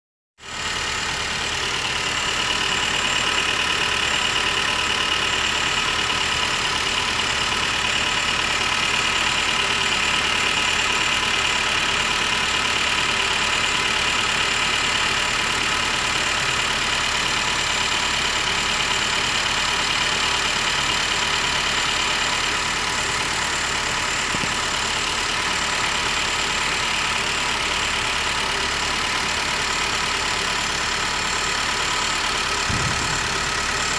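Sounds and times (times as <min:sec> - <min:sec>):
car engine idling: 0:00.4 - 0:33.9.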